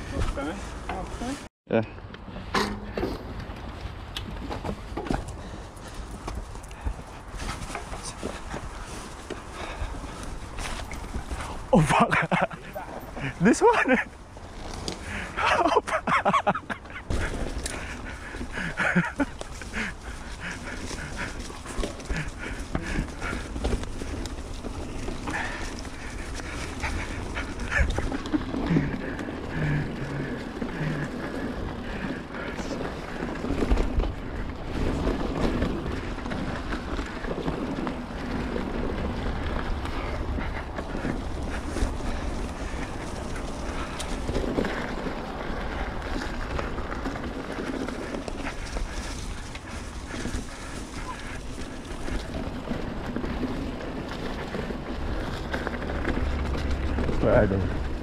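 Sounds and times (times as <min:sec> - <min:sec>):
bike tyres on dirt: 0:00.0 - 0:58.0.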